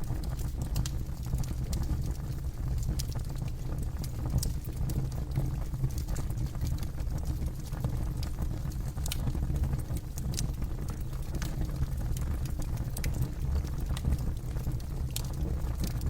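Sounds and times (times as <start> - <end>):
campfire burning: 0.0 - 16.0.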